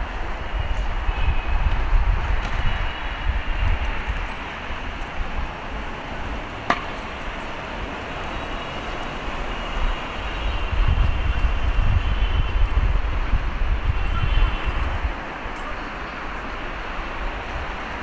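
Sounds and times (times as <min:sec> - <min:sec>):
vehicle rumble and hiss: 0:00.0 - 0:18.0.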